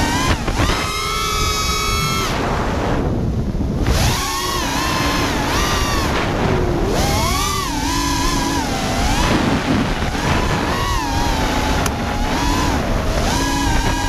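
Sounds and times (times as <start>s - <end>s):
drone motors whining: 0.0s - 14.0s
wind buffeting microphone: 0.0s - 14.0s.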